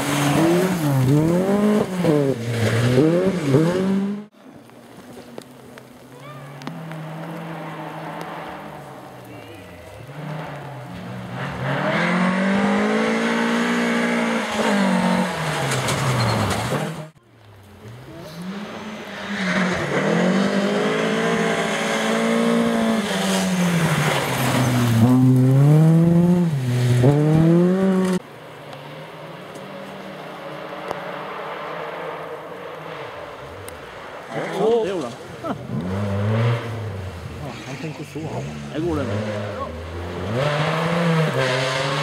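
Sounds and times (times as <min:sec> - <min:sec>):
rally car engine revving: 0:00.0 - 0:04.3, 0:06.6 - 0:17.2, 0:17.8 - 0:28.2, 0:29.0 - 0:42.0.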